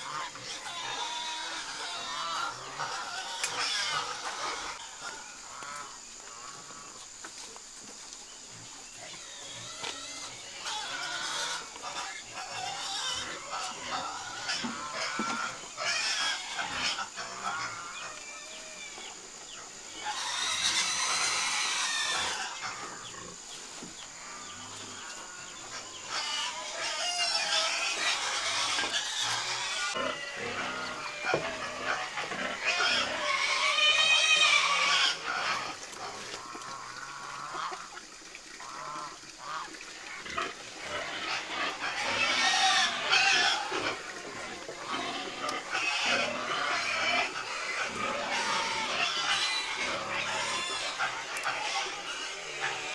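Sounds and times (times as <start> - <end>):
pigs squealing: 0.0 - 7.1, 8.5 - 52.9
chickens clucking: 0.0 - 8.1, 8.9 - 52.9.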